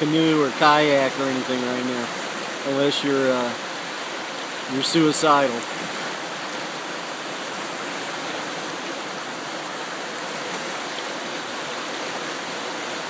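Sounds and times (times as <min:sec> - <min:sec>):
rushing floodwater roar: 0:00.0 - 0:13.0.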